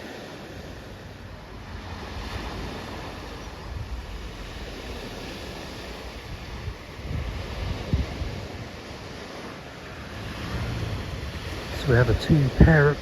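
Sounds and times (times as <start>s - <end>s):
sea surf washing on beach: 0.0s - 13.0s
wind gusting over microphone: 0.0s - 13.0s.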